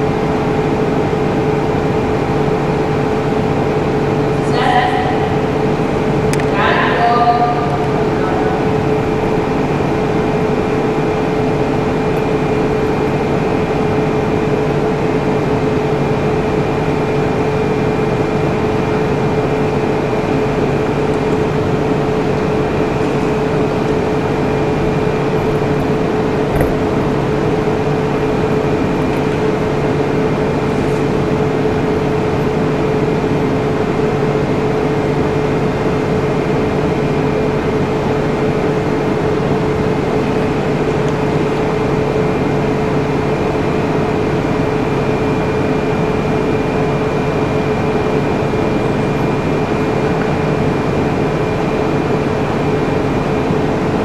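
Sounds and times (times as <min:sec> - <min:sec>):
machine hum and hiss: 0:00.0 - 0:54.0.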